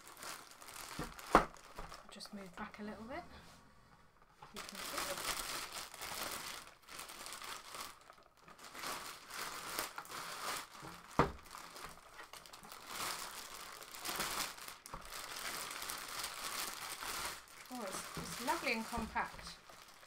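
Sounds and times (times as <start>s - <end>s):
plastic bag crinkling: 0.0s - 2.9s, 4.5s - 20.0s.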